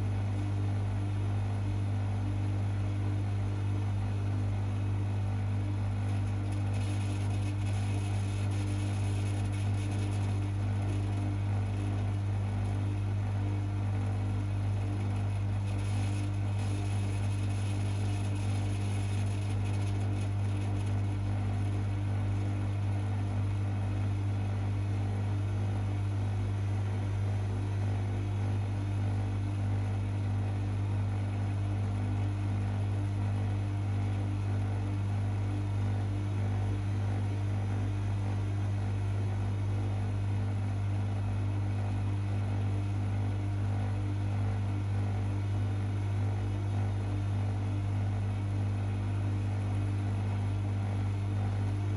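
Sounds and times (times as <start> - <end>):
washing machine running: 0.0 - 51.9.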